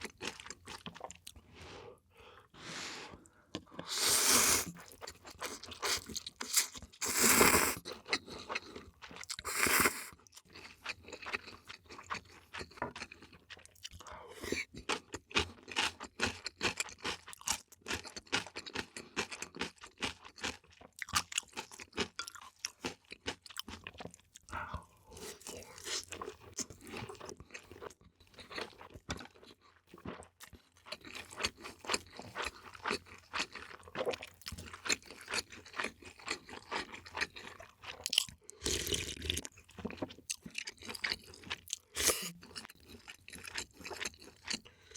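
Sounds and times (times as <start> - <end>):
crunchy chewing: 4.6 - 44.9.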